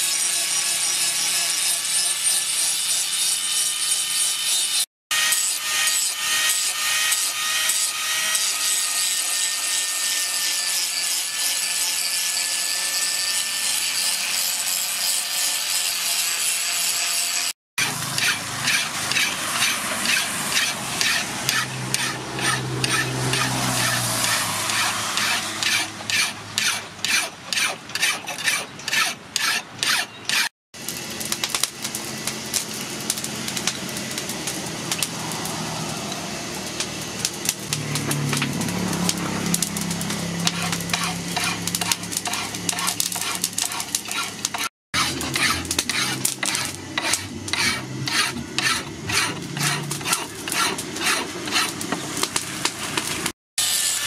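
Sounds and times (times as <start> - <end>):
file rasping on steel: 0.0 - 30.5, 39.0 - 52.4.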